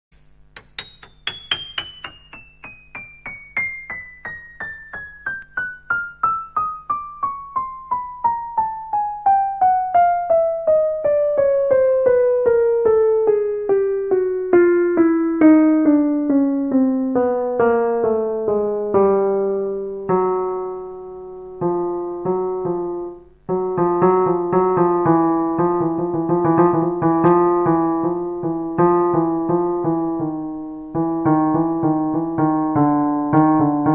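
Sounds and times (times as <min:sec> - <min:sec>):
digital piano notes: 0:00.1 - 0:33.9
piano chords: 0:00.1 - 0:33.9.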